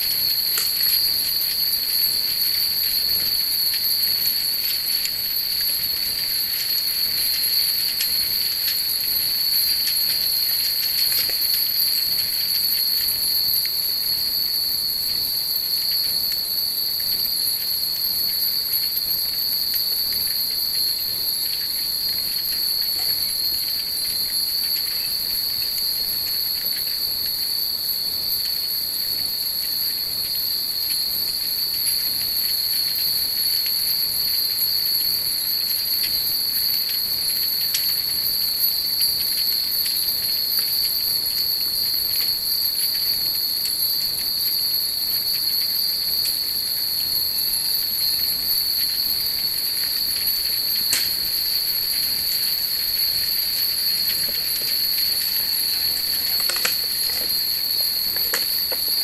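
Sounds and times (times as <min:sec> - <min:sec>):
shrill insect drone: 0:00.0 - 0:59.0.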